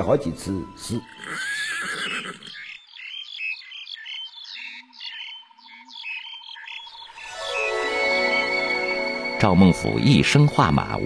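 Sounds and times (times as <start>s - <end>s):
high chirping calls: 1.0s - 10.2s.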